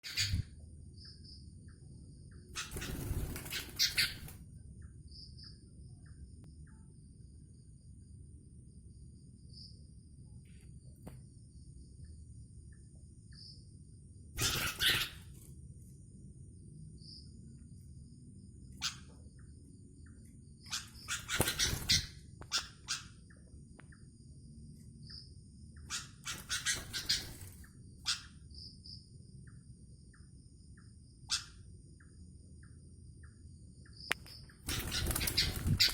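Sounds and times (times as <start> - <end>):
faint chirp: 0.0 - 35.9
night insects chorus: 0.0 - 35.9.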